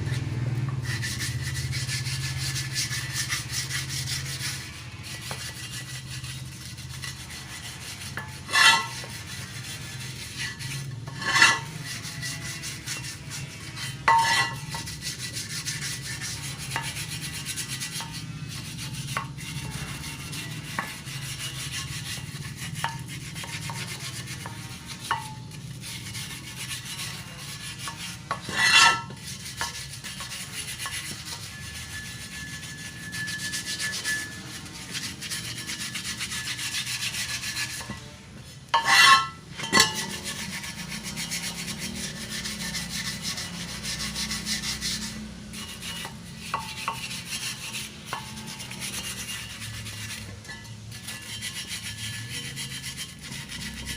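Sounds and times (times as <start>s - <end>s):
scraping paint off metal rim: 0.0s - 53.9s.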